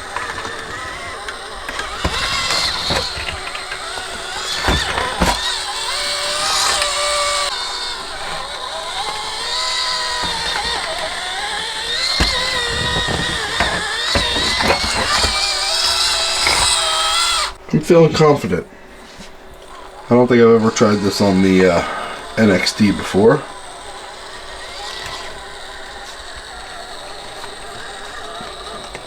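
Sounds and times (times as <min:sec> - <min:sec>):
electric motor whining: 0:00.0 - 0:29.0
tires knocking: 0:00.0 - 0:29.0.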